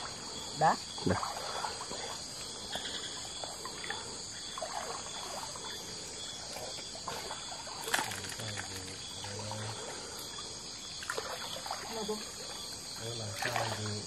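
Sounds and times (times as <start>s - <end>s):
crickets and insects chirping: 0.0s - 14.0s
water trickling in stream: 0.0s - 14.0s.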